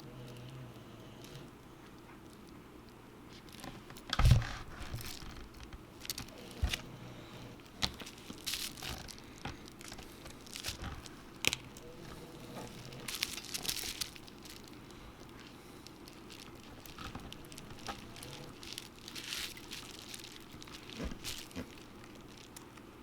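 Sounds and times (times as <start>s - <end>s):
plastic film crinkling and tearing: 3.3s - 23.0s.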